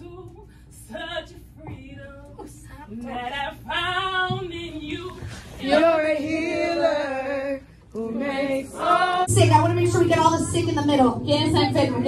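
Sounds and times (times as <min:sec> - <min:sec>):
woman singing worship song: 0:00.0 - 0:10.1.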